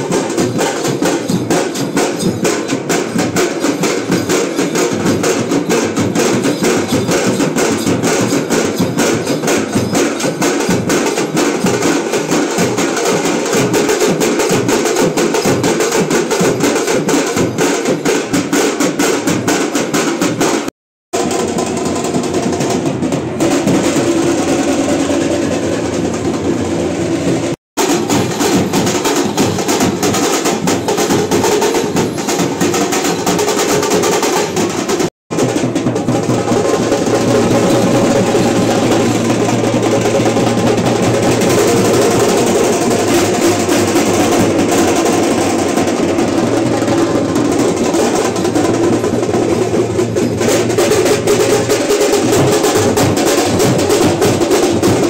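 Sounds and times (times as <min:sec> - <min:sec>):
street band drumming: 0:00.0 - 0:55.0.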